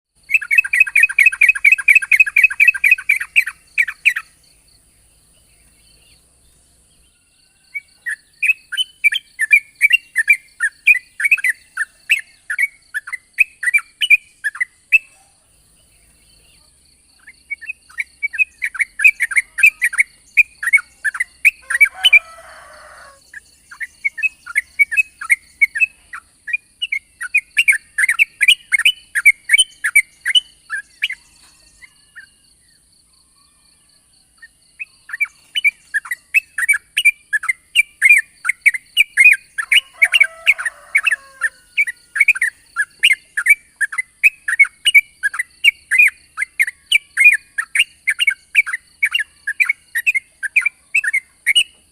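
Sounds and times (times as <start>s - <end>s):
bird singing rapid chirps: 0.1s - 51.9s.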